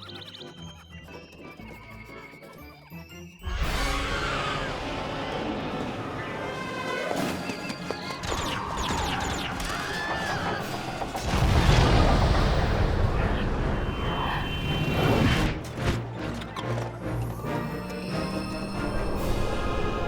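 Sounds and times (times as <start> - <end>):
music: 0.0 - 20.0.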